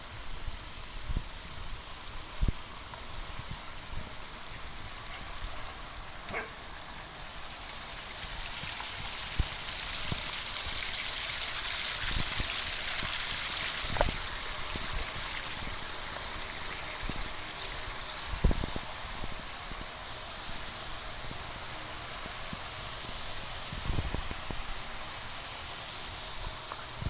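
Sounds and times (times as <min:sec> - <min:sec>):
waterfall running water: 0:00.0 - 0:27.0.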